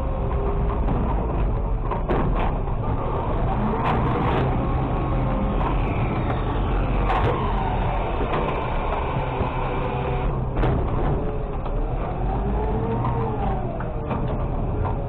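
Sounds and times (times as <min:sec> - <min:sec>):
engine and hydraulic rumble: 0:00.0 - 0:15.0
sharp knocks and rattles: 0:00.1 - 0:15.0.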